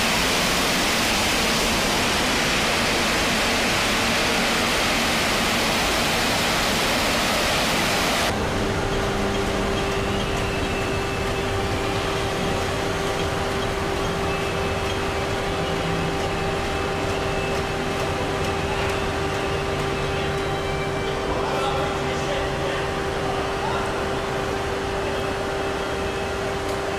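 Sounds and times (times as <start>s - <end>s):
machinery hum with steady tone: 0.0s - 26.9s.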